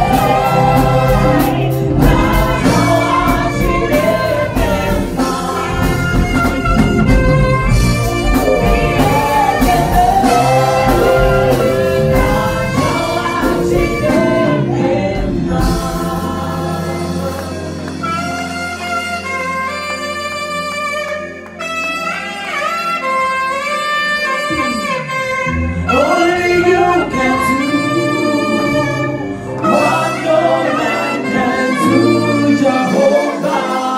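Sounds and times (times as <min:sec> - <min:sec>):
band with drums and bass: 0:00.0 - 0:33.9
saxophones playing a duet: 0:00.0 - 0:33.9.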